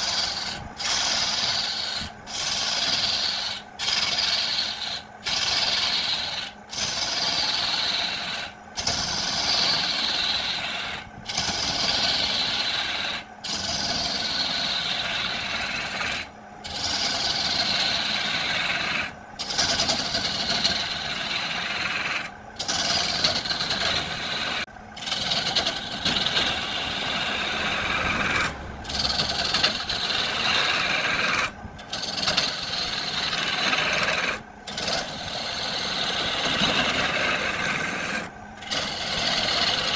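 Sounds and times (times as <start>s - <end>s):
tool rasping against wood: 0.0s - 39.9s.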